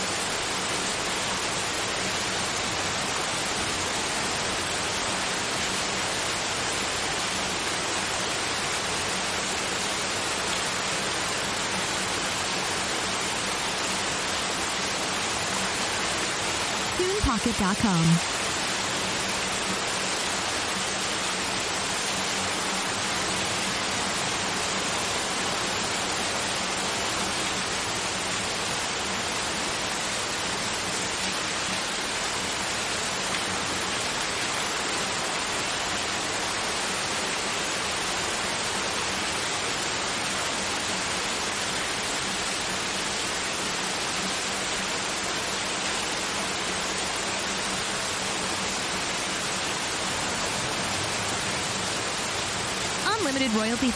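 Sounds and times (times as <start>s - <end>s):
steady white noise: 0.0s - 53.9s.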